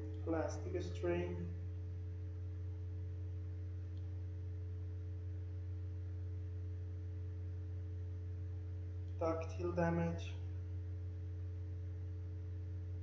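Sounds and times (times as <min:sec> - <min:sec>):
faint steady tones: 0:00.0 - 0:13.0
steady low hum: 0:00.0 - 0:13.0.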